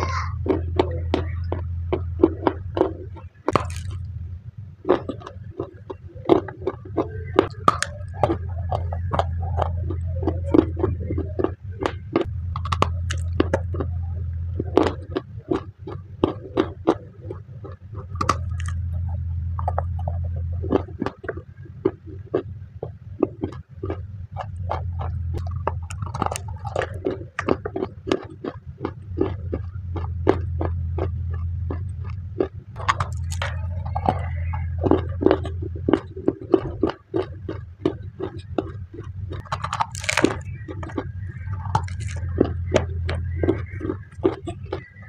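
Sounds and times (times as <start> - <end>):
crunching and chewing clay: 0.0 - 45.0
low hum: 0.0 - 45.0.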